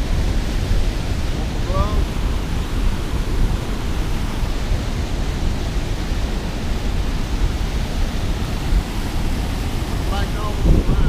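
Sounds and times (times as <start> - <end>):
water rushing over a dam: 0.0 - 11.0.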